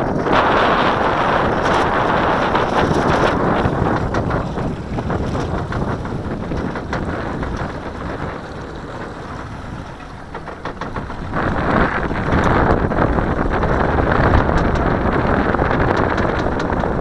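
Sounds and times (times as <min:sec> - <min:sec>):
choppy water: 0:00.0 - 0:17.0
wind buffeting microphone: 0:00.0 - 0:17.0.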